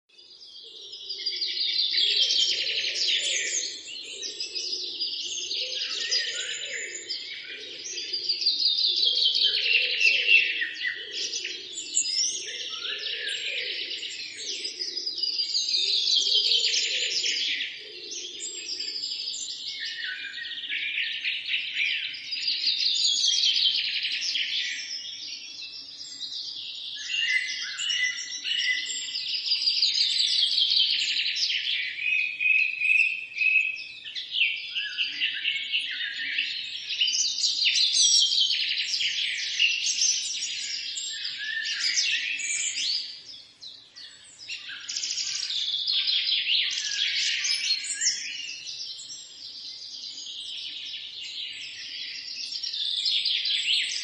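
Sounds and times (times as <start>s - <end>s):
songbirds singing: 0.1s - 54.0s.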